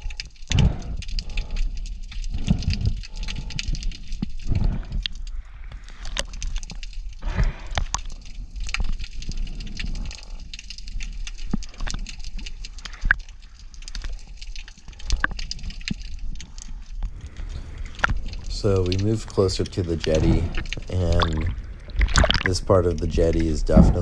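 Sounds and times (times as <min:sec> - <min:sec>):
rumbling surges of water: 0:00.0 - 0:24.0
underwater crackling and clicking: 0:00.0 - 0:24.0.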